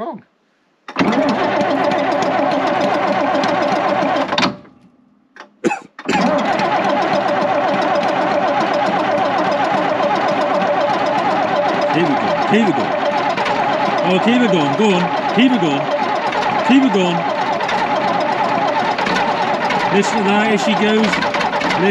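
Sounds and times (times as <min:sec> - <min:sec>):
diesel engine cranking on starter: 0:00.9 - 0:04.8, 0:05.4 - 0:21.9.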